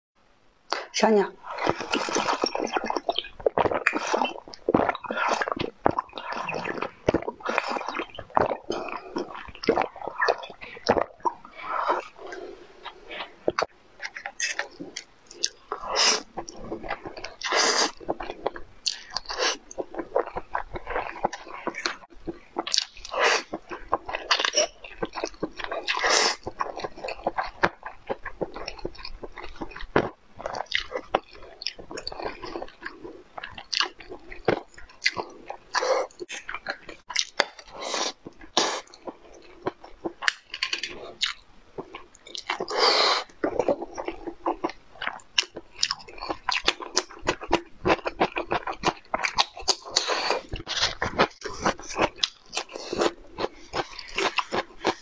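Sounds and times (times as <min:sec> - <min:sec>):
person chewing and crunching food: 0:00.7 - 0:55.0.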